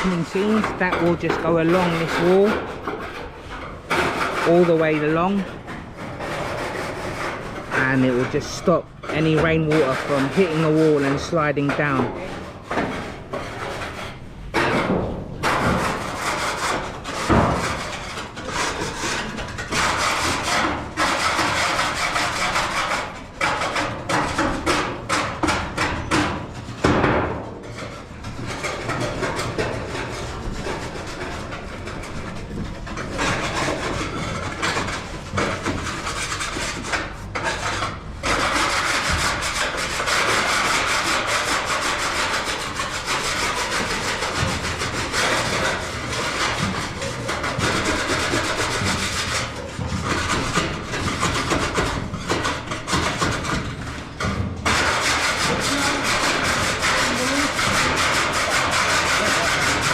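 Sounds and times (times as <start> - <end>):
hand tools rasping and scraping: 0.0 - 59.9.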